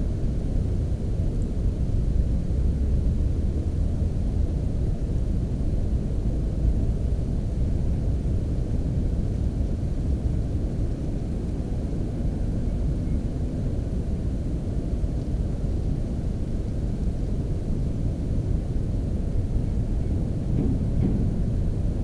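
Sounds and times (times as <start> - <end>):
low rumble of background noise: 0.0 - 22.0.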